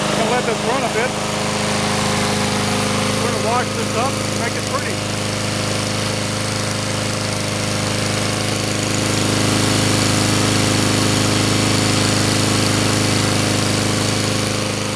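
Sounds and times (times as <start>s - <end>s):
lawn mower engine running: 0.0s - 14.9s.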